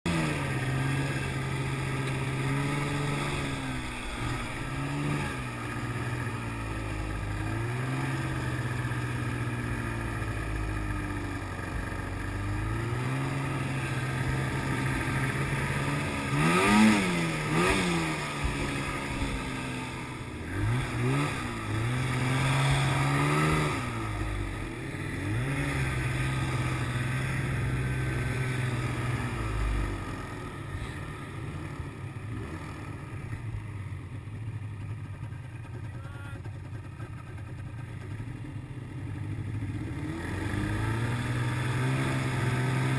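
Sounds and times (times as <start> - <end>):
snowmobile engine revving: 0.1 - 33.4, 39.6 - 42.9.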